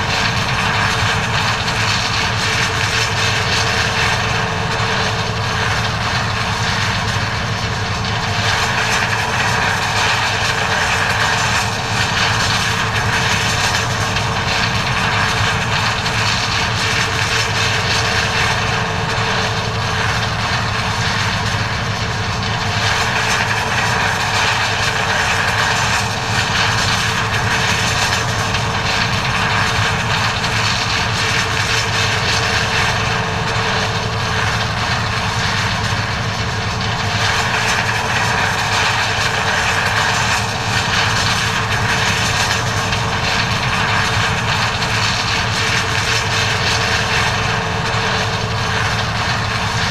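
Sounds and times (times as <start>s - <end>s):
combine harvester engine hum: 0.0s - 49.9s.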